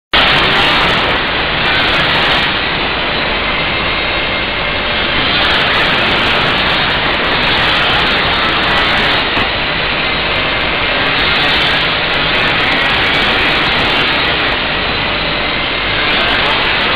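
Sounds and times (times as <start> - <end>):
factory machinery roar: 0.1 - 16.9.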